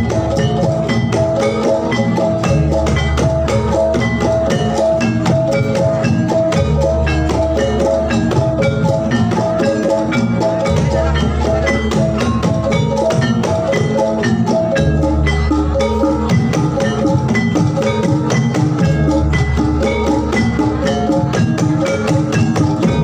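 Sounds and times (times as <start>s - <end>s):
gamelan music: 0.0s - 23.0s.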